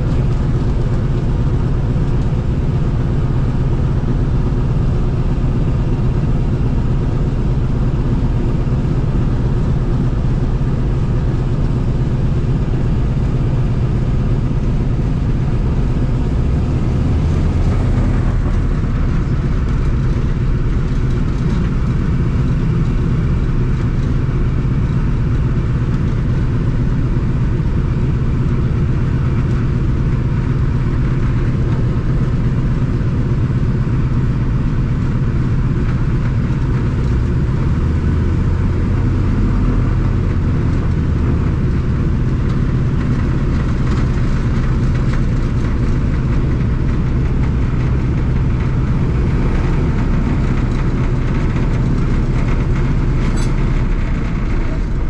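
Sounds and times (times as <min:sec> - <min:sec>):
radial aircraft engines droning: 0:00.0 - 0:55.0.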